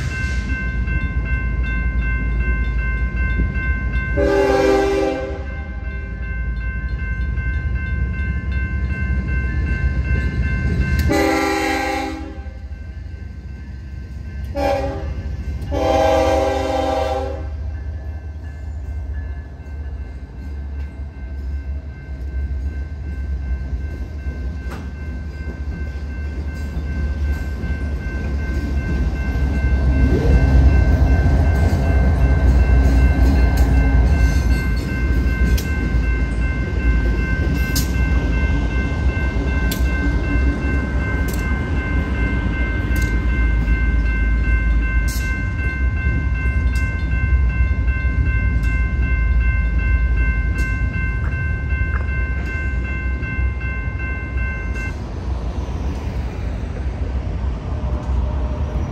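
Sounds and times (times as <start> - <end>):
crossing bell ringing: 0.0 - 57.4
freight train rumble: 0.0 - 58.9.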